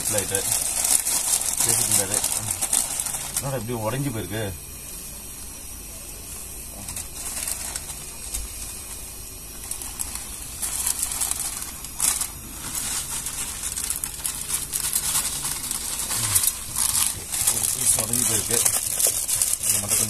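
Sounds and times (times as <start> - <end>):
plastic packet crinkling: 0.0 - 3.9, 6.8 - 20.0.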